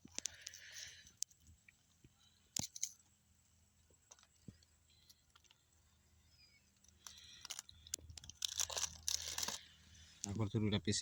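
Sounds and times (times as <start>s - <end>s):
grilled food crackling: 0.0s - 10.4s.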